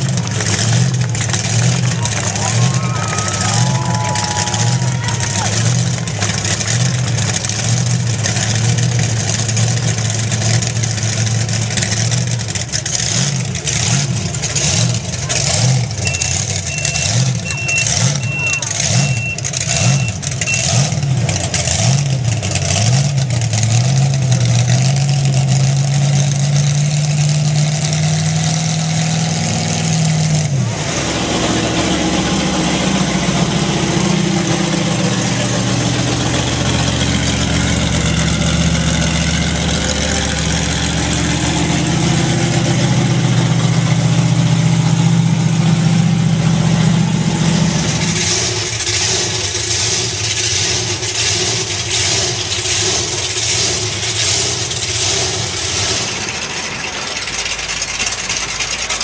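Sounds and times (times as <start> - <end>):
large truck engine revving: 0.0 - 59.0.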